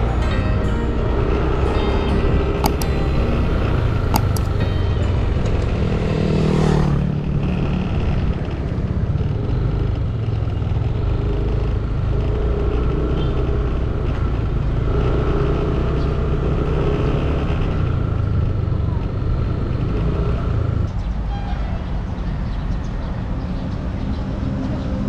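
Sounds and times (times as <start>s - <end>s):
cars and motorcycles passing: 0.0s - 25.0s
steady low traffic rumble: 0.0s - 25.0s.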